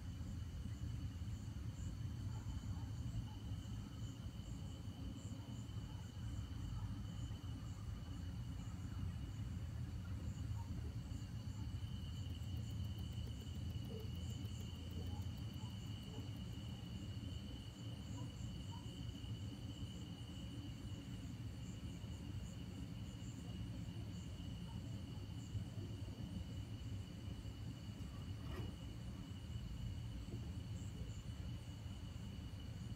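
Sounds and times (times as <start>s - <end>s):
crickets trilling: 0.3s - 32.9s.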